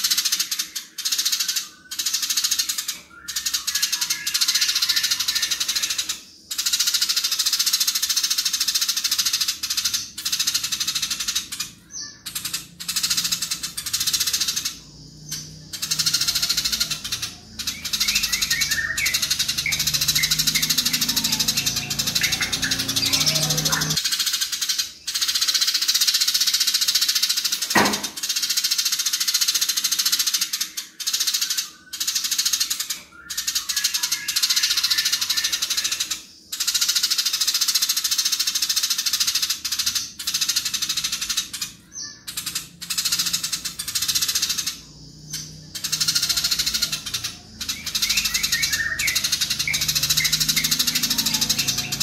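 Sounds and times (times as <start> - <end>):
sparrow chattering: 0.0 - 52.0.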